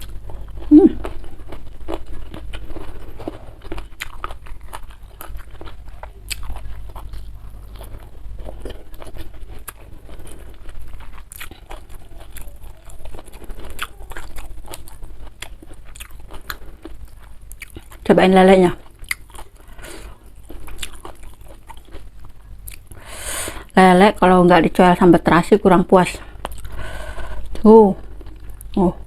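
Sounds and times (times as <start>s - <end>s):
chewing crunchy food: 0.0s - 25.1s, 26.2s - 29.0s.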